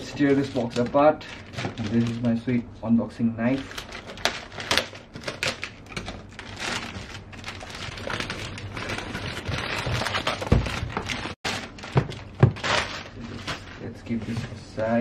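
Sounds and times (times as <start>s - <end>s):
plastic bag crinkling and tearing: 0.0s - 2.5s, 3.5s - 13.9s.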